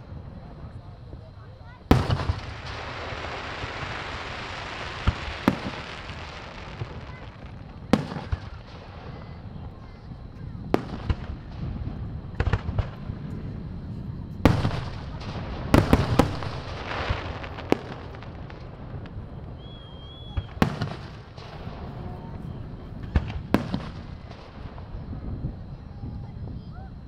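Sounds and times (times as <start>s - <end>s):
fireworks crackling: 0.0s - 26.8s
fireworks booming: 0.0s - 27.0s.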